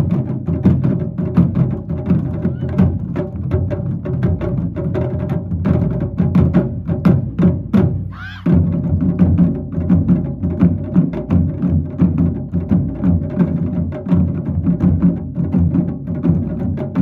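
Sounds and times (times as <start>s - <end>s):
drum ensemble drumming: 0.0s - 17.0s.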